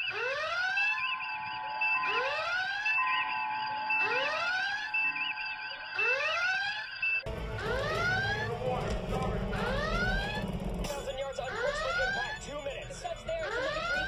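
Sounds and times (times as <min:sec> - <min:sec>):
alert klaxon whooping: 0:00.0 - 0:14.0
warbling background beeps: 0:00.0 - 0:14.0.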